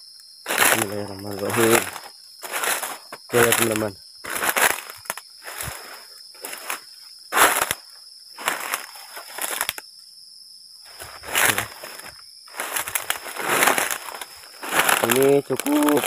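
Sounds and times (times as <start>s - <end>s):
footsteps through dry grass: 0.5s - 9.8s, 10.9s - 16.0s.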